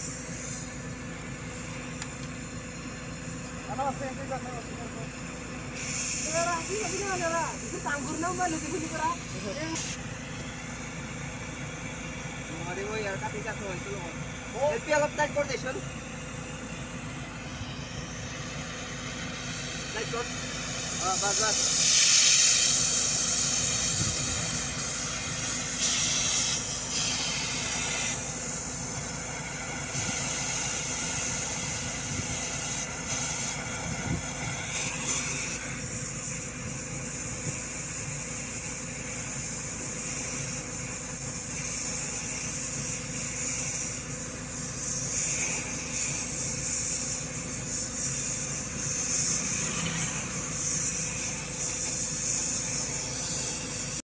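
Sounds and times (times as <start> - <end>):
cutting torch hissing: 0.0 - 54.0
low machine hum: 0.0 - 54.0.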